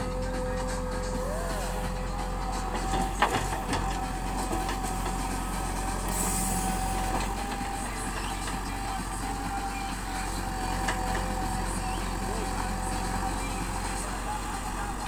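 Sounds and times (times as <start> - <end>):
diesel engine running: 0.0 - 15.0
high whine: 0.0 - 15.0.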